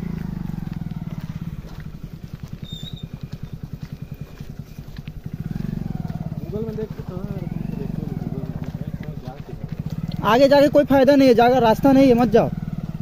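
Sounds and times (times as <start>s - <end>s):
motorcycle engine chugging: 0.0s - 13.0s.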